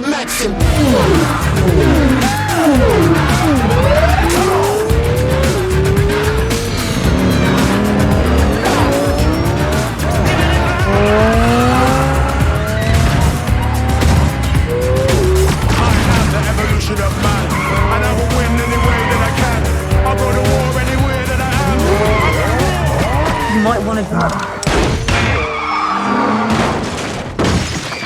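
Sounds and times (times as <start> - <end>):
rap song with heavy beat: 0.0 - 24.6
car engines revving: 0.0 - 24.7
tyres squealing: 0.0 - 26.6.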